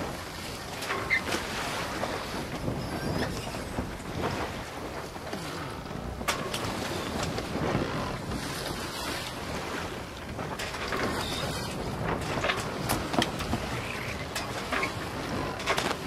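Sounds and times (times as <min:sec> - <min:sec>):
open water wash: 0:00.0 - 0:16.0
wind buffeting microphone: 0:00.0 - 0:16.0.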